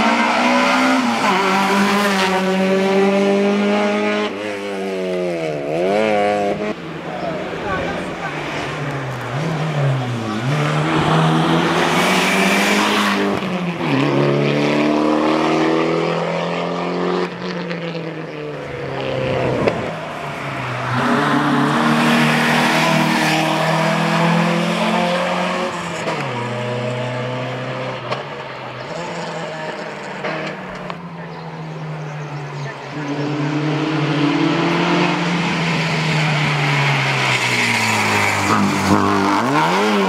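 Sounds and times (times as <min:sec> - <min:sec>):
rally car engines at full throttle: 0:00.0 - 0:40.0.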